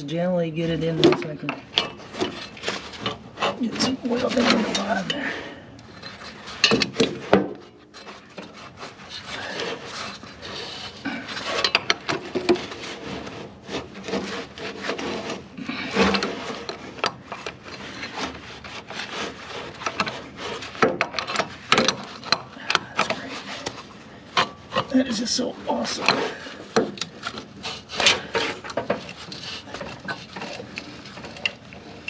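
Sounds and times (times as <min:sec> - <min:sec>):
metal parts scraping and clicking: 0:01.0 - 0:05.2, 0:05.8 - 0:32.0.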